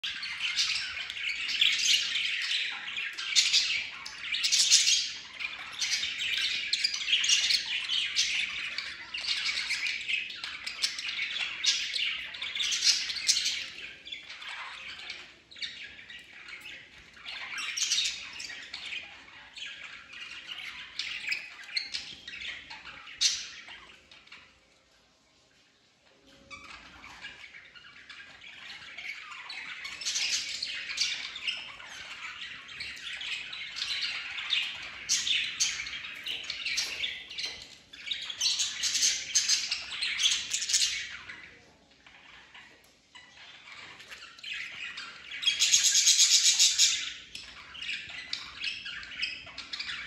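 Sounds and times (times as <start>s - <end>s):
budgerigars chattering: 0.0s - 24.2s, 26.5s - 50.0s.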